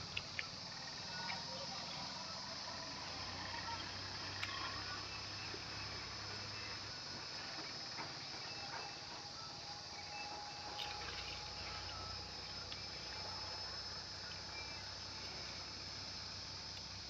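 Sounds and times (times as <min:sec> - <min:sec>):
high insect drone: 0:00.0 - 0:17.0
short insect chirps: 0:00.0 - 0:17.0.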